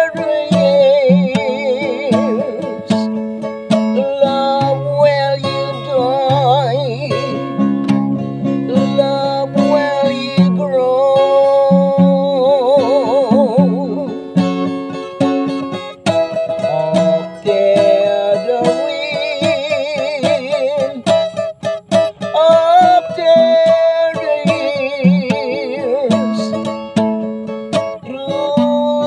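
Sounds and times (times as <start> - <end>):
man singing with vibrato: 0.0 - 29.0
strummed acoustic guitar: 0.0 - 29.0.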